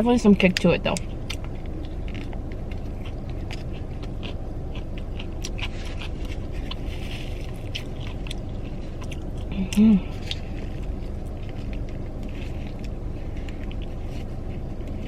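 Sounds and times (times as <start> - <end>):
low background hum: 0.0 - 15.0
person chewing crunchy food: 1.0 - 15.0.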